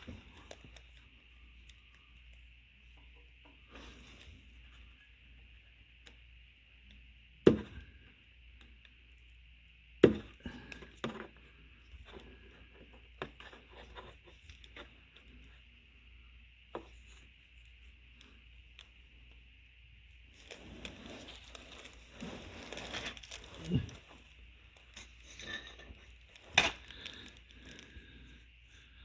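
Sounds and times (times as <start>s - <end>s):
steady faint hiss: 0.0s - 29.0s.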